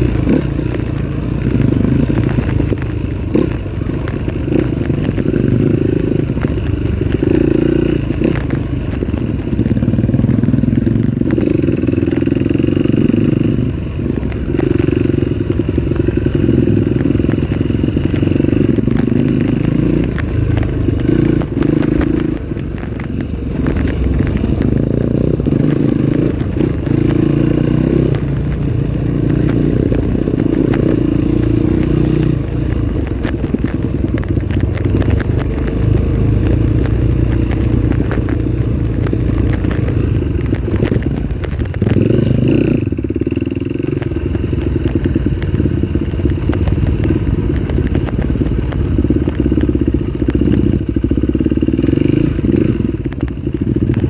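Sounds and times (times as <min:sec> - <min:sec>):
rattles and knocks from bike: 0:00.0 - 0:54.0.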